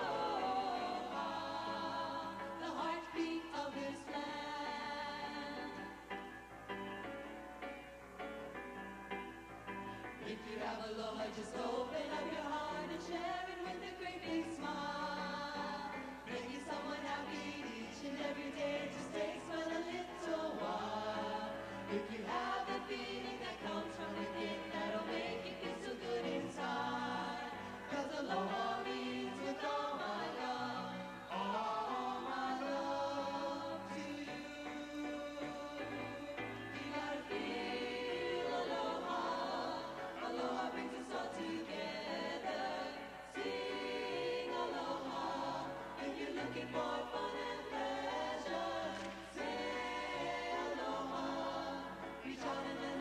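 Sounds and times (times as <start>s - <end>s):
choir singing in harmony: 0.0s - 6.5s, 9.2s - 53.0s.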